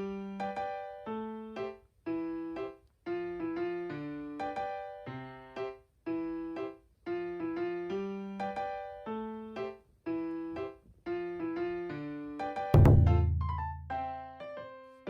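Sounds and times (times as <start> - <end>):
light keyboard tune: 0.0 - 14.7.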